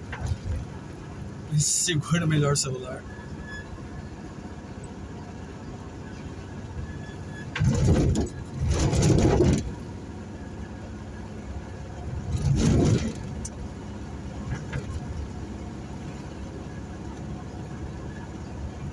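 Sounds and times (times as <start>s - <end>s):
road vehicle running noise: 0.0s - 18.9s.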